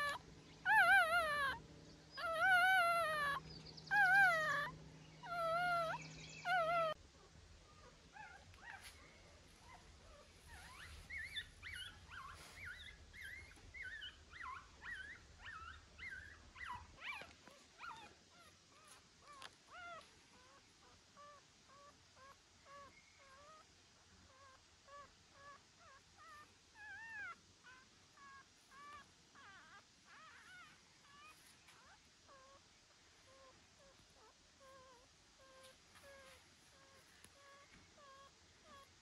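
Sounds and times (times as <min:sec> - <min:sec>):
puppy whimpering: 0:00.0 - 0:08.9, 0:09.6 - 0:23.7, 0:24.3 - 0:32.6, 0:33.3 - 0:38.9
puppy whining: 0:00.0 - 0:09.0, 0:09.6 - 0:23.7, 0:24.3 - 0:32.6, 0:33.2 - 0:39.0.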